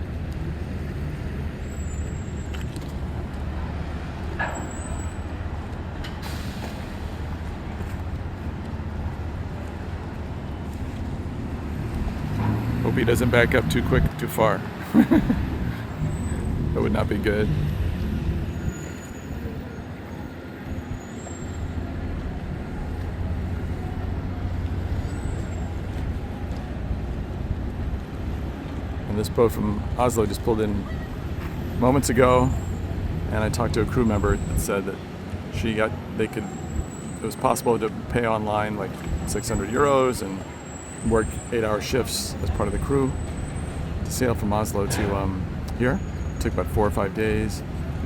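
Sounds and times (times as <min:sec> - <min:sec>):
boat engine rumble: 0:00.0 - 0:48.0.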